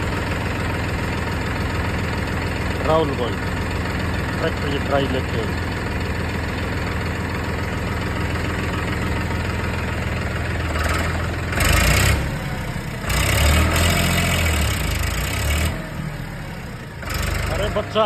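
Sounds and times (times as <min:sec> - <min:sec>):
tractor diesel engine idling and revving: 0:00.0 - 0:18.0.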